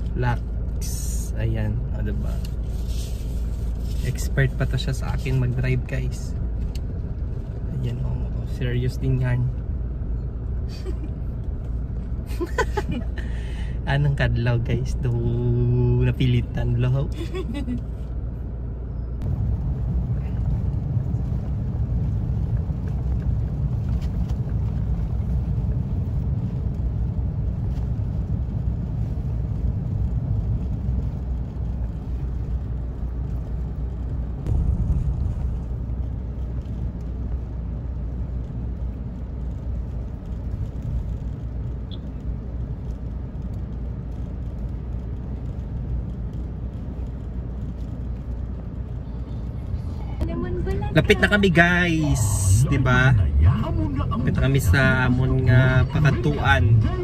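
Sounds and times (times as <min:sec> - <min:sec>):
car interior road noise: 0:00.0 - 0:57.0.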